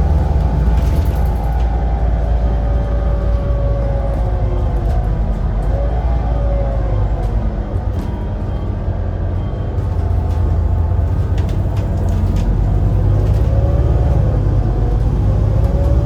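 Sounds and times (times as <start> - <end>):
bus diesel engine rumble: 0.0 - 16.0.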